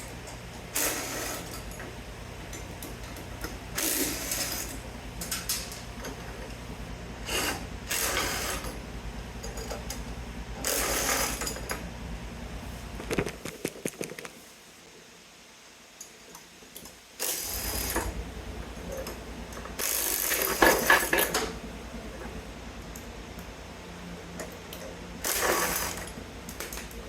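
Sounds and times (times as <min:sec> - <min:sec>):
steady low hum: 0:00.0 - 0:15.1, 0:17.2 - 0:27.0.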